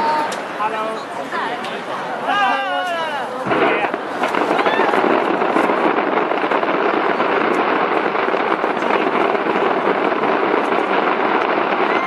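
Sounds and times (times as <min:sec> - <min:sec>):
fireworks crackling: 0:02.0 - 0:12.0.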